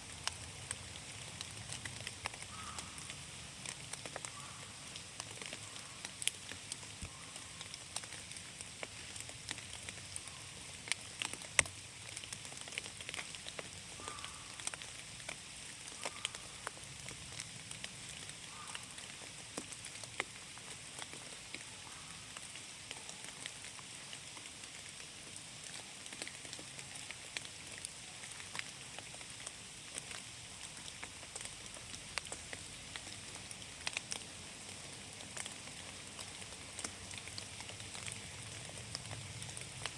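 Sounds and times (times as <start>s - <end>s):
raindrops tapping: 0.2s - 21.7s, 25.6s - 39.9s.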